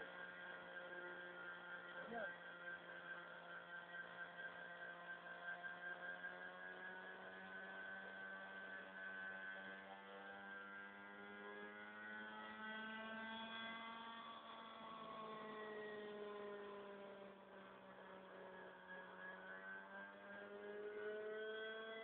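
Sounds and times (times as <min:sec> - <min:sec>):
model helicopter motor whine: 0:00.0 - 0:22.0.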